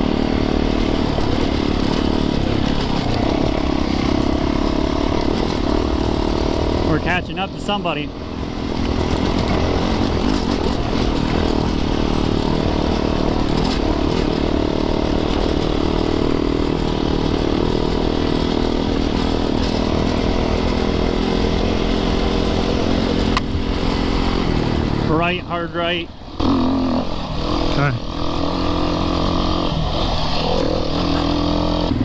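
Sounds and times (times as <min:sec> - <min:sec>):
dirt bike engine under throttle: 0:00.0 - 0:32.0.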